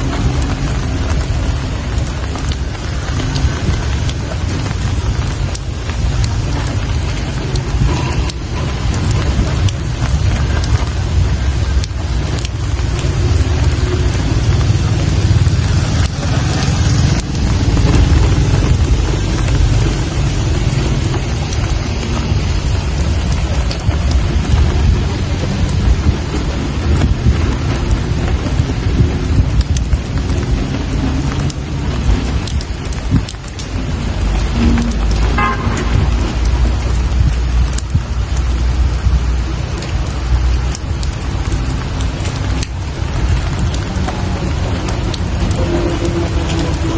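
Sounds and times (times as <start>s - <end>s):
deep low rumble: 0.0s - 46.9s
rain drop ticks: 0.0s - 46.9s
steady rain falling: 0.0s - 46.9s.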